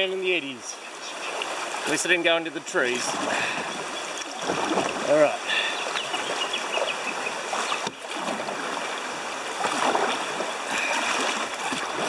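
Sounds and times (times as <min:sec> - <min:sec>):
paddle splashing: 0:00.0 - 0:12.0
river water rushing: 0:00.0 - 0:12.0.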